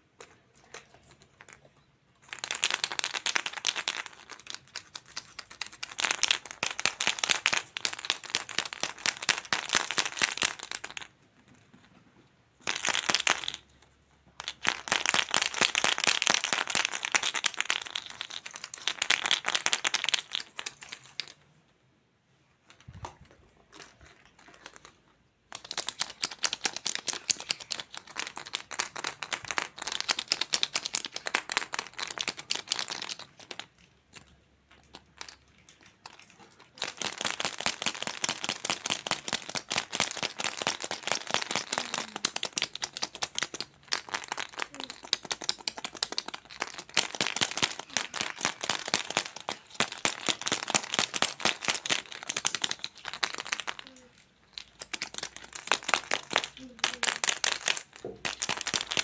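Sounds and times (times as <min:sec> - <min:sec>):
plastic crinkling: 0:00.1 - 0:11.1, 0:14.4 - 0:21.6, 0:22.6 - 0:59.0.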